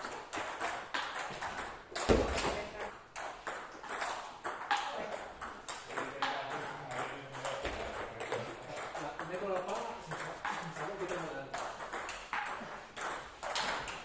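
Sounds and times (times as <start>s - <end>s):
table tennis ball clicking: 0.3s - 14.0s.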